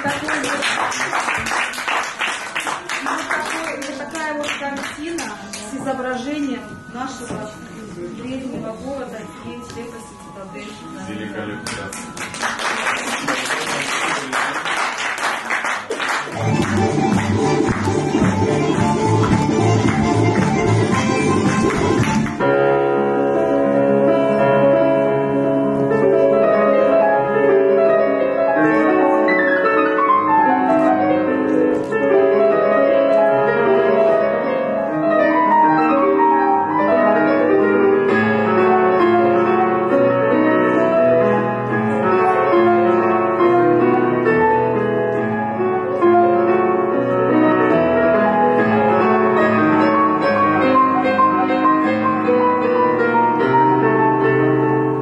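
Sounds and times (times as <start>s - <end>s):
classical piano piece: 0.0s - 55.0s.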